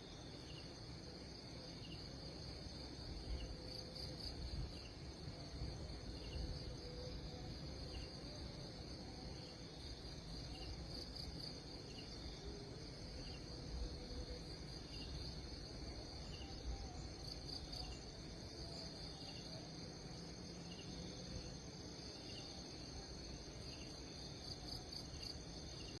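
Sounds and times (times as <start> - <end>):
insect trill: 0.0 - 26.0.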